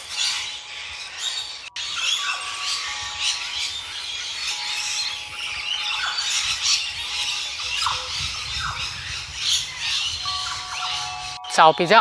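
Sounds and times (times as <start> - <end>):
birds giving shrill harsh calls: 0.0 - 12.0.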